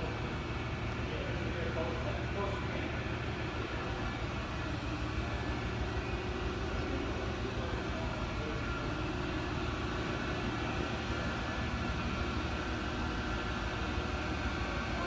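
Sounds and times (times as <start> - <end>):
faint steady whines: 0.0 - 15.0
machine humming: 0.0 - 15.0.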